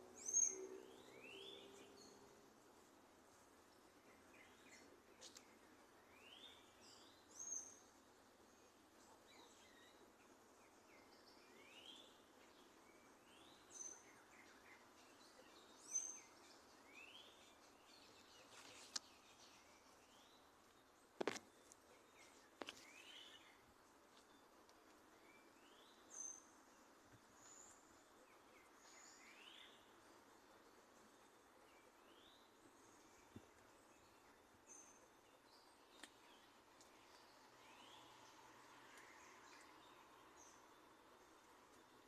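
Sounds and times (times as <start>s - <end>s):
background hiss: 0.0s - 42.0s
small birds chirping: 0.0s - 42.0s.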